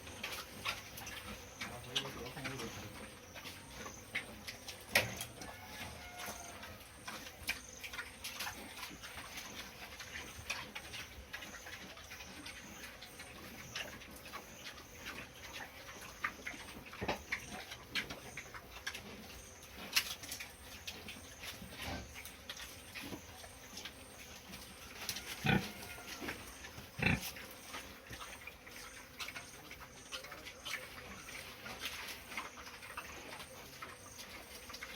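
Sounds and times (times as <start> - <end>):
pigs grunting: 0.0 - 34.9.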